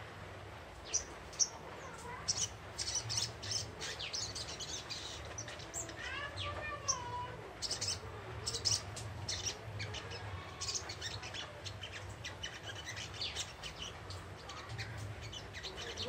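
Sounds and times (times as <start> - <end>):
bird twittering high chirps: 0.8 - 16.0.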